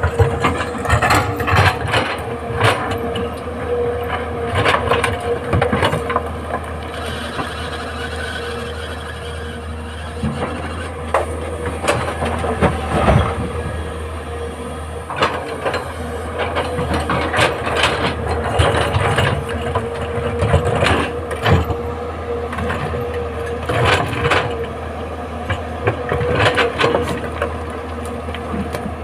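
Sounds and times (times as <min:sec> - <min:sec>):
excavator diesel engine whine: 0:00.0 - 0:29.0.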